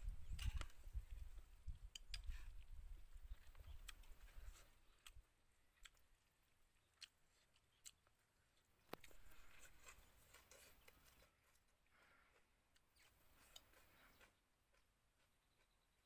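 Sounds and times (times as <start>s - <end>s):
soft chewing: 0.1s - 16.0s.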